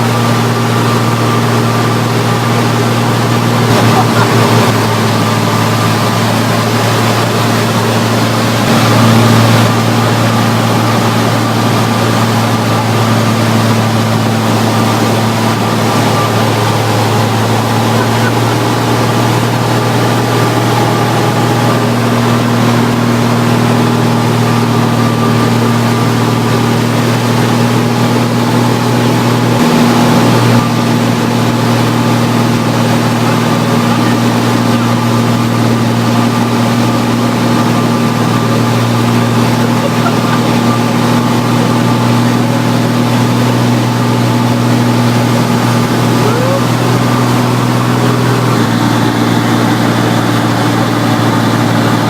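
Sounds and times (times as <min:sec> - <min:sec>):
airplane engine and propeller droning: 0:00.0 - 0:52.0.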